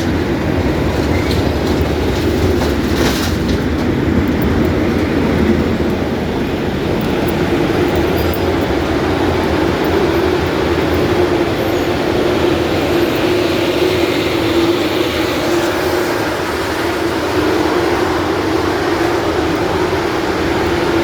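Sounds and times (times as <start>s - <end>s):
milling machine droning: 3.9s - 21.0s.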